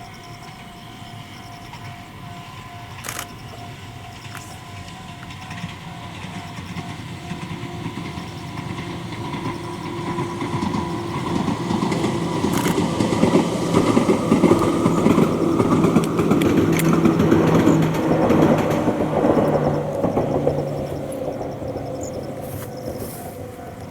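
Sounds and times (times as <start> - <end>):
electric train motor hum: 0.0 - 23.9
wheels clicking over rail joints: 1.7 - 23.9.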